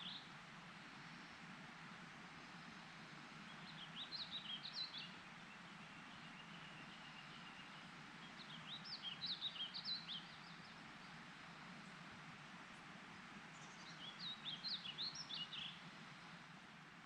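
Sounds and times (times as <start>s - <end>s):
songbird singing: 0.0s - 1.4s, 2.4s - 12.1s, 13.4s - 16.6s
steady outdoor hiss: 0.0s - 17.0s.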